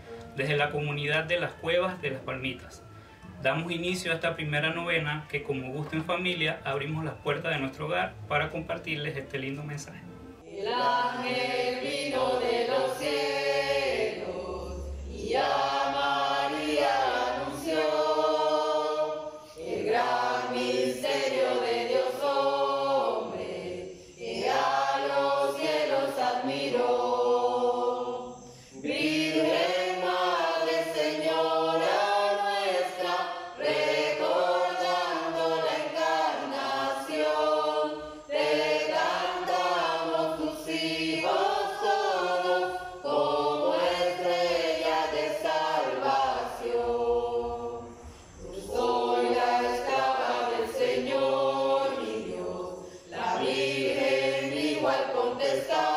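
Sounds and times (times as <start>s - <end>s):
group singing a hymn: 0.0s - 55.9s.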